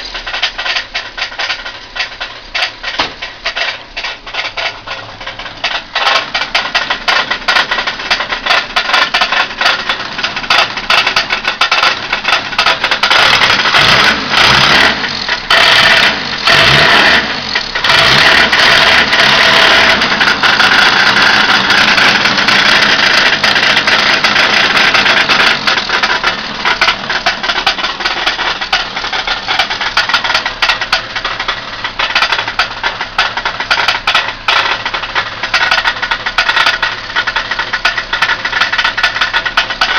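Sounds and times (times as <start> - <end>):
car engine knocking and revving: 0.0 - 39.9.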